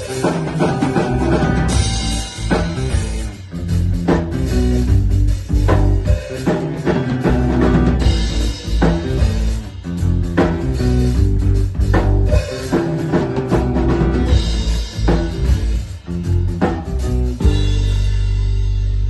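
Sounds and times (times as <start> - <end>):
deep bass line: 0.0 - 19.0
drum kit: 0.0 - 19.0.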